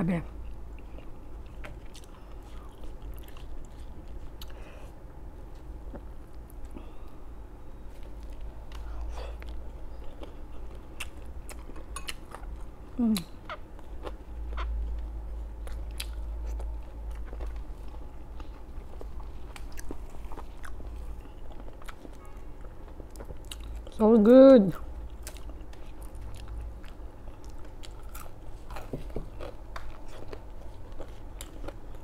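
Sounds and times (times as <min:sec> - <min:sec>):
person chewing crispy food: 0:00.4 - 0:24.1, 0:24.7 - 0:32.0.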